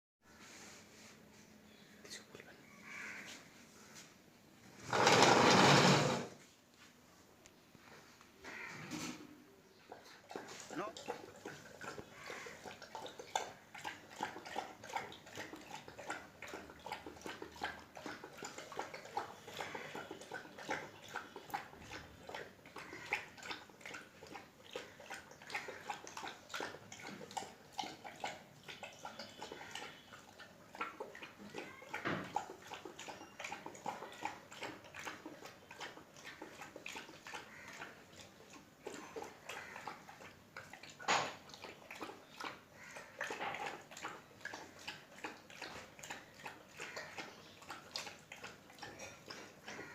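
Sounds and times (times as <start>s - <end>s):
dog eating with wet smacks: 9.8s - 49.9s.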